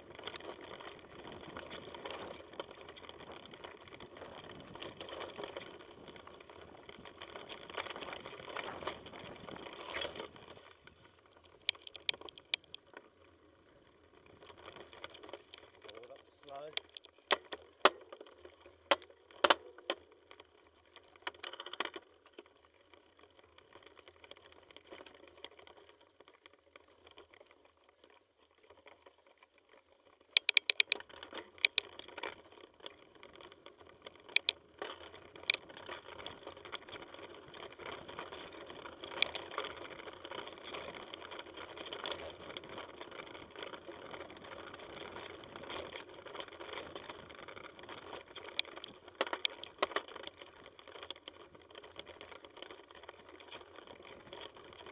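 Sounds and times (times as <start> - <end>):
bike tyres rolling on dirt: 0.0 - 30.4, 31.0 - 54.9
bike rattling over rocks: 0.0 - 54.9.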